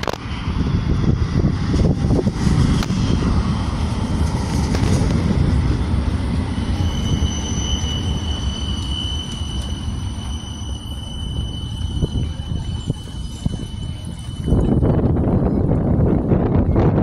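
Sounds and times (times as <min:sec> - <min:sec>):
high steady whine: 0:00.0 - 0:17.0
tram wheels rumbling on rail: 0:00.0 - 0:17.0.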